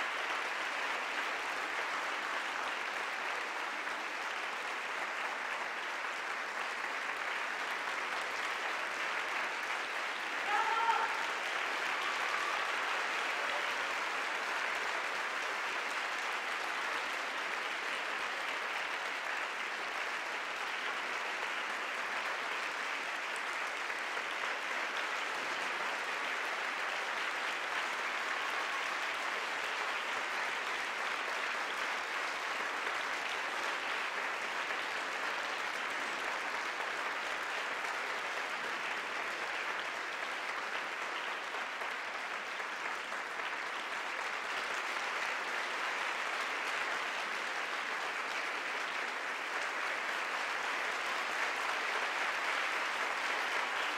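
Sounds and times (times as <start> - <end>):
audience applauding: 0.0 - 53.9.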